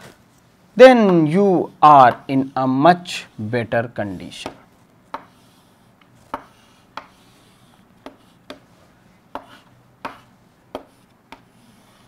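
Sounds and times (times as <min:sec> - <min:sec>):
chalk tapping and scraping: 0:01.0 - 0:03.4, 0:04.2 - 0:12.0.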